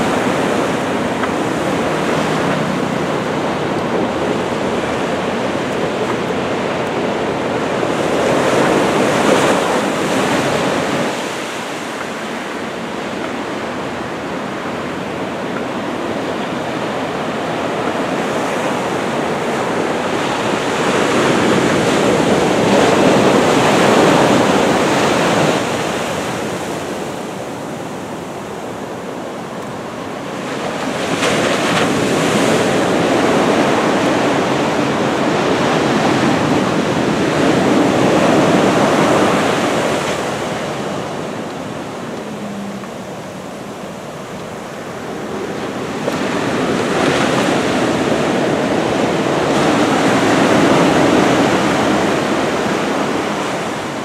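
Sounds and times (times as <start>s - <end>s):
heavy surf breaking on beach: 0.0s - 54.0s.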